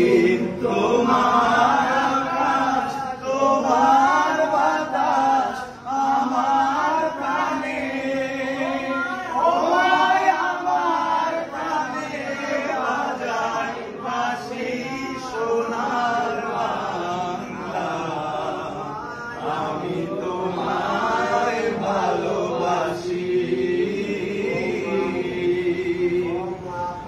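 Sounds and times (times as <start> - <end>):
men singing in unison: 0.0 - 27.0.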